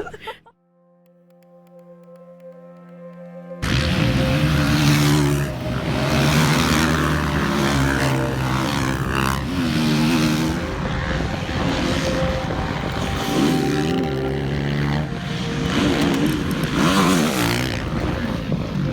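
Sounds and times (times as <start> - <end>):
motocross bike engines revving: 3.6 - 18.9.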